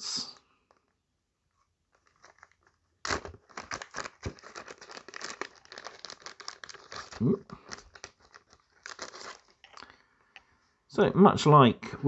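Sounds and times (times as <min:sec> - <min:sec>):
plastic bag crinkling: 0:00.4 - 0:10.4.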